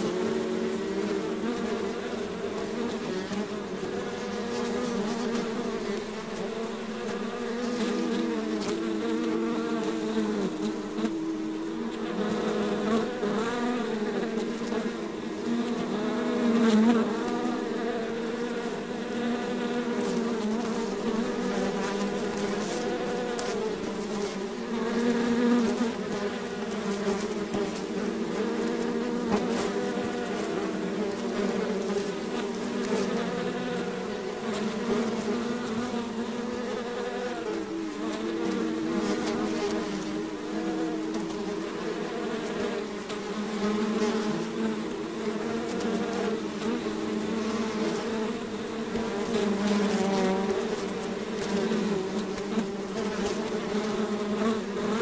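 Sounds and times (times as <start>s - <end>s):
bees buzzing: 0.0s - 55.0s.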